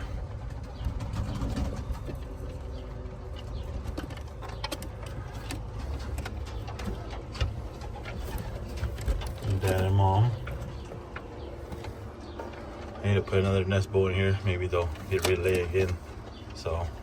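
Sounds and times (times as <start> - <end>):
pigeons cooing softly: 0.0 - 17.0.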